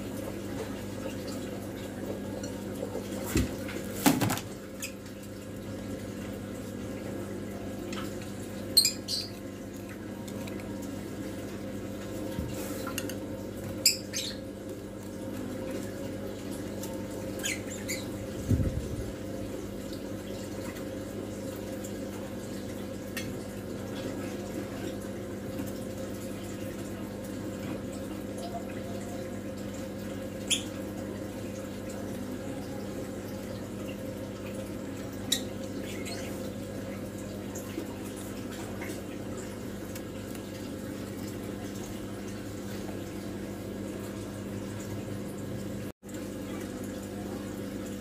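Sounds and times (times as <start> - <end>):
aquarium filter humming: 0.0 - 48.0
water trickling: 0.0 - 48.0.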